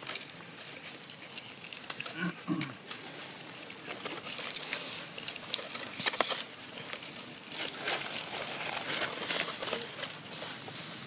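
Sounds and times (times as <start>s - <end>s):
dry leaves rustling: 0.0s - 11.0s.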